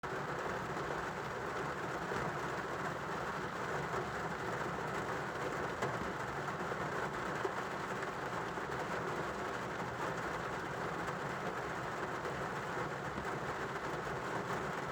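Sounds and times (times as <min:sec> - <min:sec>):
steady rain falling: 0:00.1 - 0:14.9.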